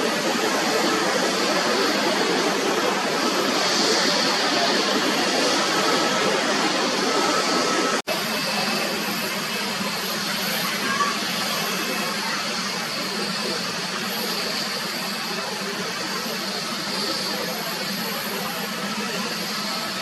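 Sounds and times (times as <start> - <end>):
high turbine whine: 0.0 - 20.0
jet engines roaring: 0.0 - 20.0.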